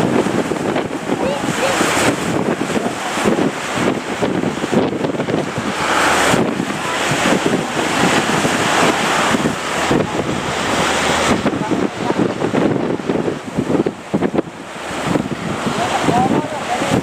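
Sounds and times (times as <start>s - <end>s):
breaking surf: 0.0s - 17.0s
wind buffeting microphone: 0.0s - 17.0s.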